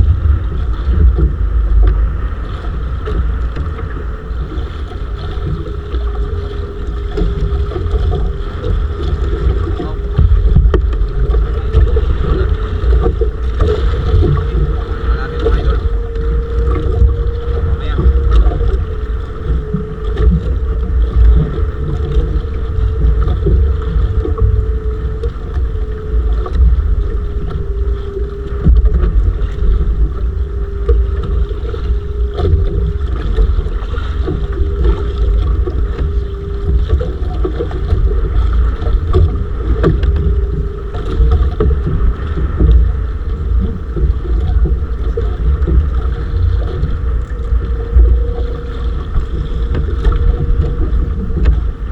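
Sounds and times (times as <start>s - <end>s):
boat engine running: 0.0s - 51.9s
wind buffeting microphone: 0.0s - 51.9s.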